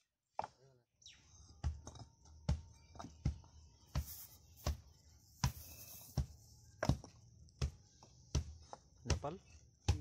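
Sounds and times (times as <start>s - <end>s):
hand rammer thudding soil: 1.6s - 10.0s.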